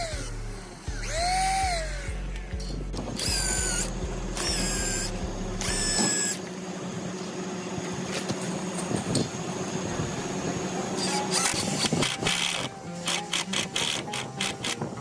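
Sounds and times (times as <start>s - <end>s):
power drill whirring: 0.0s - 2.2s, 3.1s - 6.6s, 8.0s - 14.9s.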